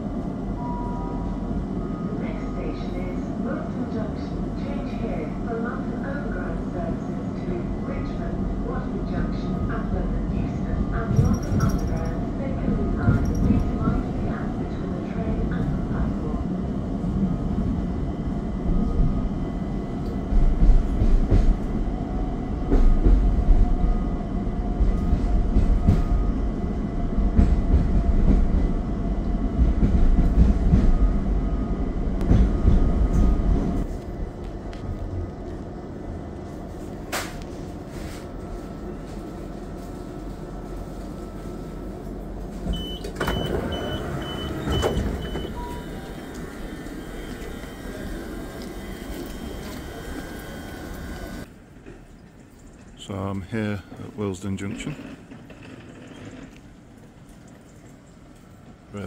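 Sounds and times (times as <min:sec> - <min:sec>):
electric train rumble: 0:00.0 - 0:51.8.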